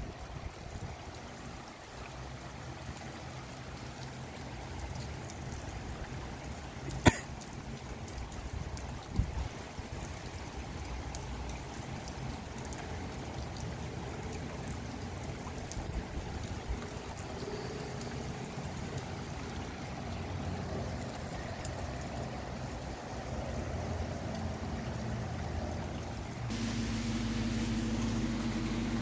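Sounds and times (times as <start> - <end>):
rain falling: 0.0 - 29.0
water drips: 0.0 - 29.0.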